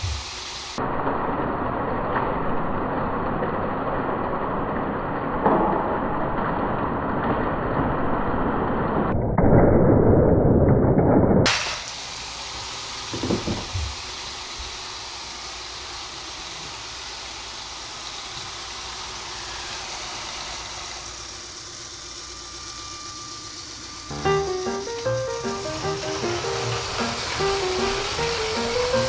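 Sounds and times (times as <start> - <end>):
toy train rumbling: 0.0 - 9.0, 11.5 - 29.0.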